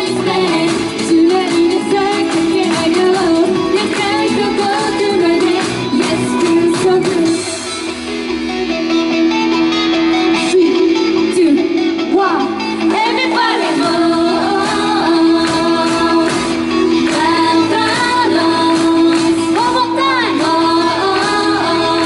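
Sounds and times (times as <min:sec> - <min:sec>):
upbeat pop song female vocals: 0:00.0 - 0:07.9, 0:10.3 - 0:22.0.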